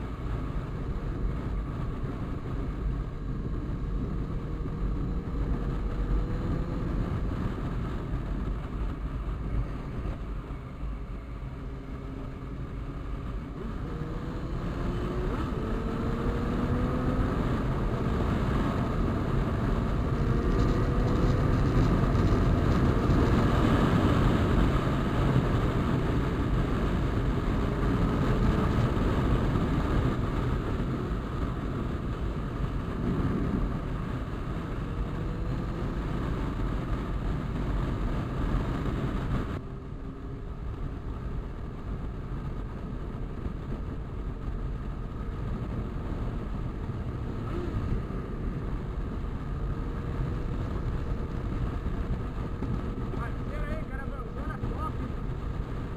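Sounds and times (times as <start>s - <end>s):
motorcycle engine rumbling: 0.0s - 55.9s
wind noise on microphone: 0.0s - 55.9s.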